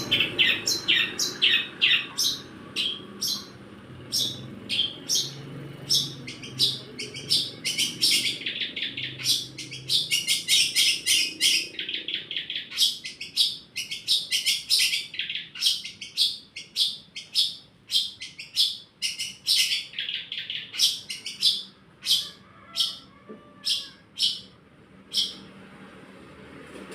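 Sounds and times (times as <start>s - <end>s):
bird singing high chirps: 0.0s - 25.5s.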